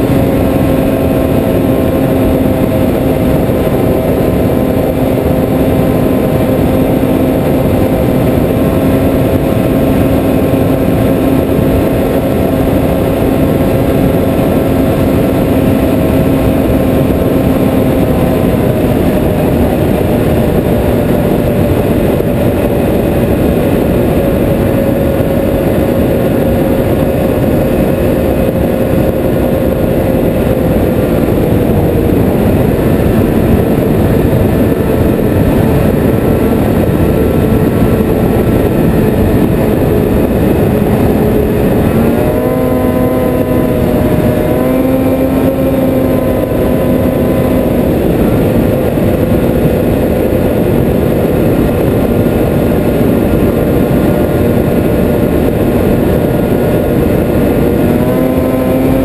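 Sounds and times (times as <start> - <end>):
snowmobile engine running: 0.0 - 59.0
wind on microphone: 0.0 - 59.0.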